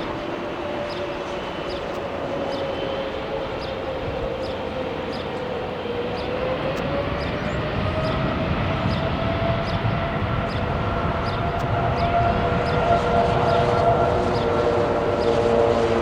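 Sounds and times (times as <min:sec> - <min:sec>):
jet engines roaring and whining: 0:00.0 - 0:16.0.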